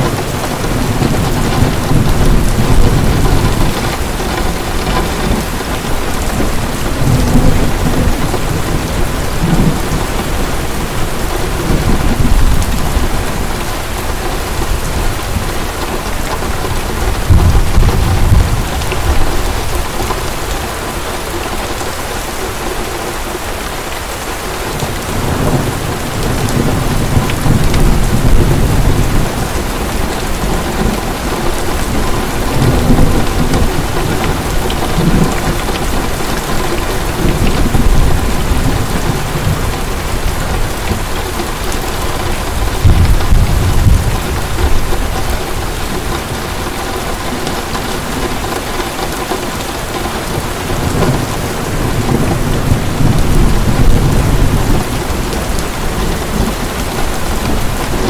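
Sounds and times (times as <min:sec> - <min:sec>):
thunder rumbling: 0:00.0 - 0:21.8, 0:24.7 - 0:58.0
heavy rain: 0:00.0 - 0:58.0.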